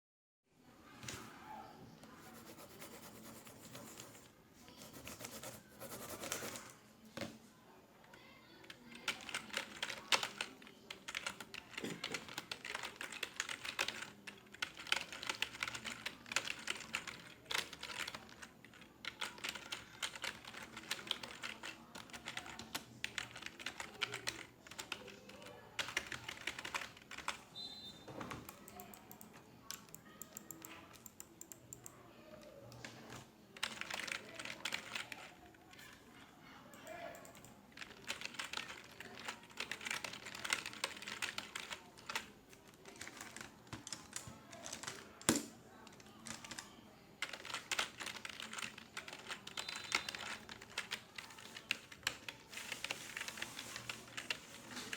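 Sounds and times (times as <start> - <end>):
computer keyboard typing: 4.9 - 6.7, 8.6 - 27.4, 28.3 - 32.0, 33.1 - 36.0, 36.7 - 45.4, 46.0 - 54.9.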